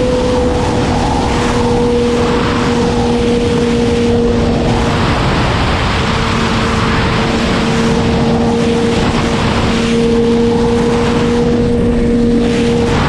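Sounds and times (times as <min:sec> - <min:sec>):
motorcycle engine at high revs: 0:00.0 - 0:13.0
wind rush on microphone: 0:00.0 - 0:13.0.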